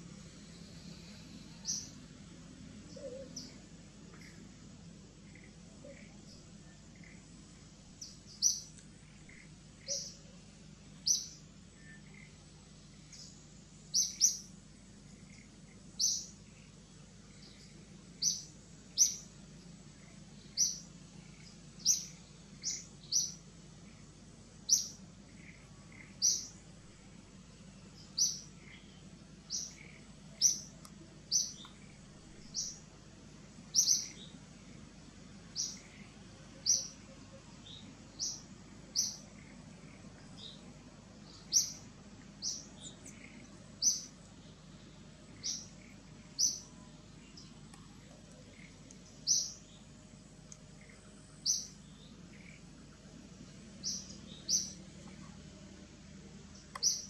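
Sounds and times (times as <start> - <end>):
bird chirping: 0.3 - 2.0, 2.8 - 4.4, 5.2 - 7.3, 7.9 - 10.4, 11.0 - 12.4, 13.0 - 19.4, 20.0 - 26.7, 27.8 - 32.9, 33.7 - 34.4, 35.5 - 50.0, 50.7 - 52.9, 53.8 - 55.4, 56.5 - 57.0.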